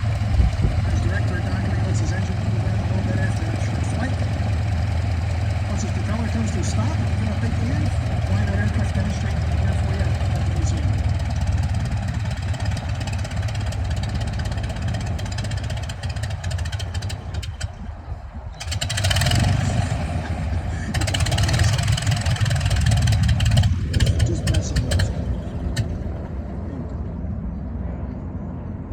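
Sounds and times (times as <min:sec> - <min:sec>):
biplane engine rumble: 0:00.0 - 0:28.9.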